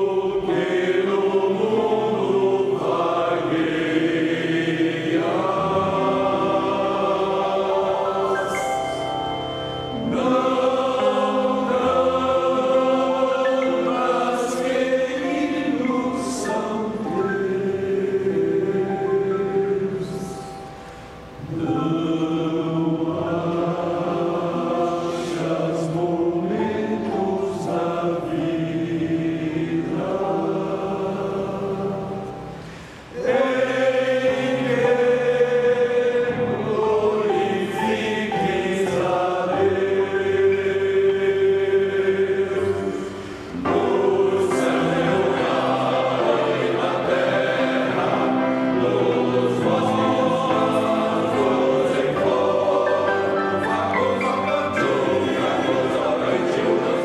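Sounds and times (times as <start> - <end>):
men's choir singing a hymn: 0.0 - 57.0.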